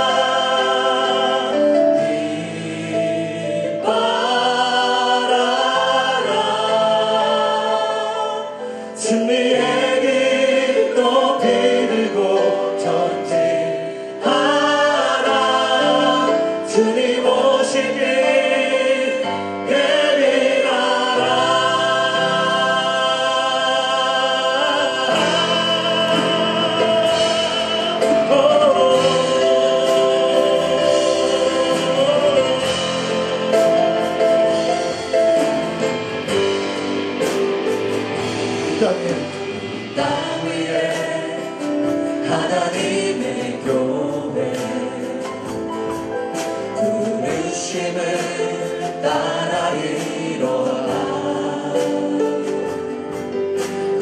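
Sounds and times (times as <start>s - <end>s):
band accompaniment: 0.0s - 54.0s
group singing praise song: 0.0s - 54.0s.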